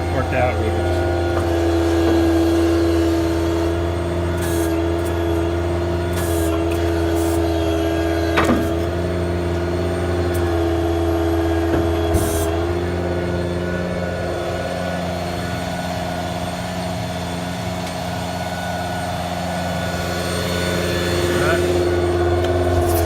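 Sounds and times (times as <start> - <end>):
hydraulic pump whine: 0.0 - 23.0
truck engine running: 0.0 - 23.0.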